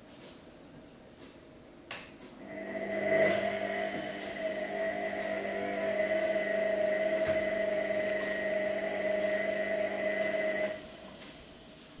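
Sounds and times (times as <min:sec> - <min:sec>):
washing machine spin whine: 0:02.3 - 0:12.0.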